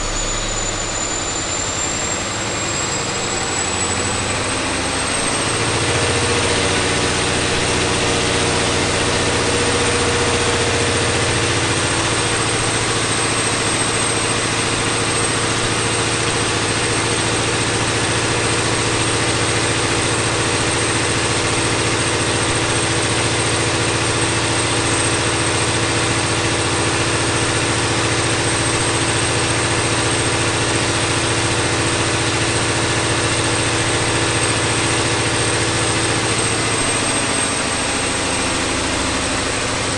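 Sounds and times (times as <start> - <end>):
diesel engine running steadily: 0.0 - 39.9
high steady whine: 0.0 - 39.9.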